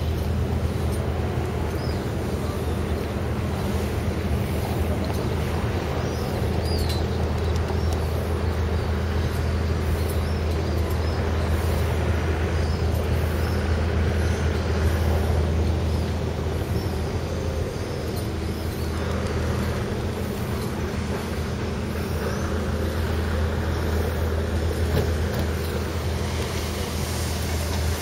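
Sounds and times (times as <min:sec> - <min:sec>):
low engine drone: 0:00.0 - 0:28.0
traffic noise: 0:00.0 - 0:28.0.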